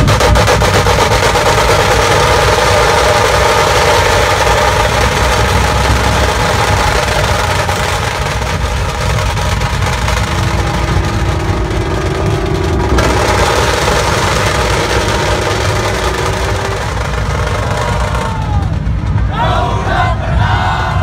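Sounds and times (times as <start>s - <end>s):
heavy vehicle engine rumbling: 0.0s - 21.0s.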